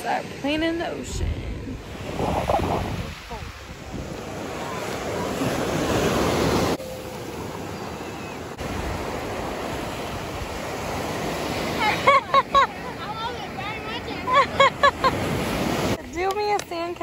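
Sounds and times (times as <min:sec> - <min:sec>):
waves breaking on beach: 0:00.0 - 0:16.8.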